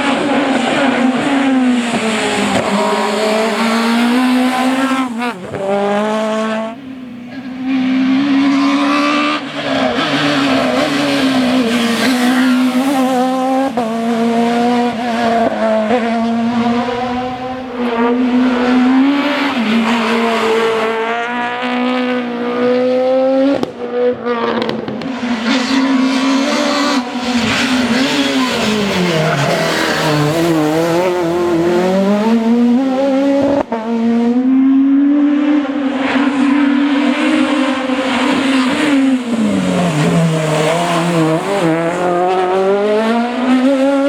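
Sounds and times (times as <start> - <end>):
rally car engine at high revs: 0.0 - 44.0.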